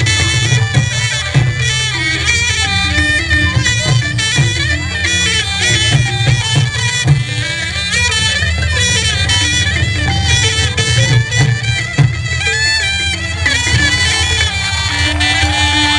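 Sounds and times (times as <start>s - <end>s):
repeating drum beat: 0.0s - 8.0s, 8.8s - 15.9s
reedy wind instrument melody: 0.0s - 15.9s.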